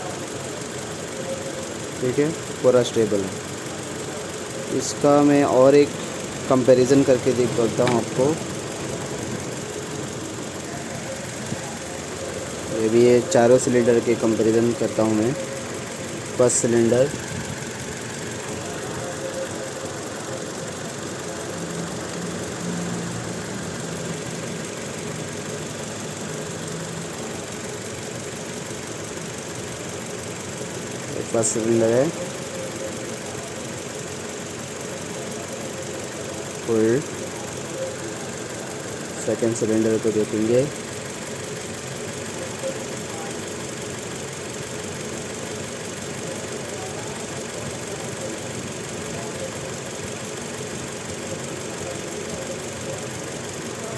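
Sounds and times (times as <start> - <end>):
car engine idling with misfire: 0.0 - 53.9.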